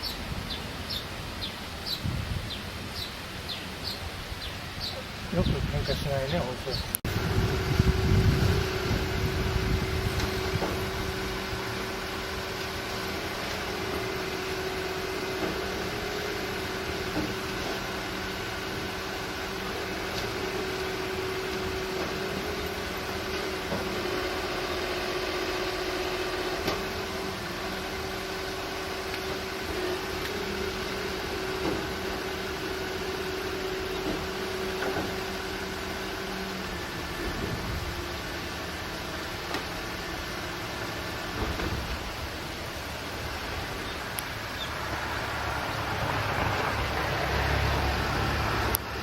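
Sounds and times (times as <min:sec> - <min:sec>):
machine hum: 0:00.0 - 0:49.0
steady background hiss: 0:00.0 - 0:49.0.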